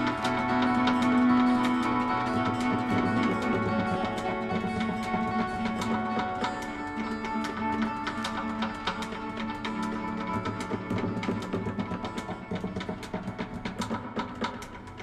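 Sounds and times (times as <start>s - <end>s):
instrumental progressive metal music: 0.0s - 15.0s.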